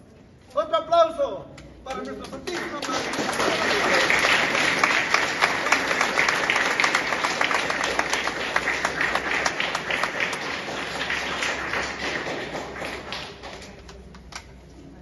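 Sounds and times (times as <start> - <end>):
people clapping: 1.9 - 14.6.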